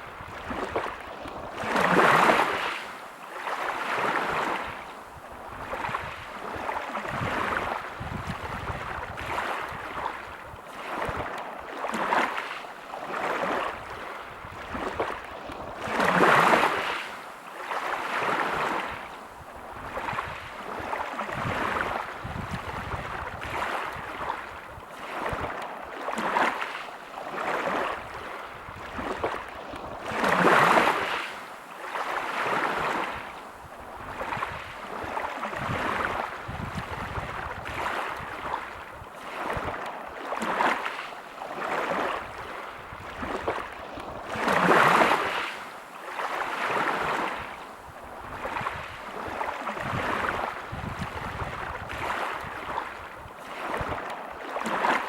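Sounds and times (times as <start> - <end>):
waves breaking on pebble beach: 0.0 - 4.8, 5.6 - 19.0, 19.8 - 55.0.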